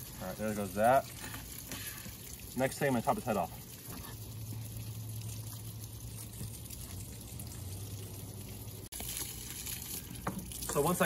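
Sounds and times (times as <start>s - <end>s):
garden hose water splashing: 0.0s - 11.0s.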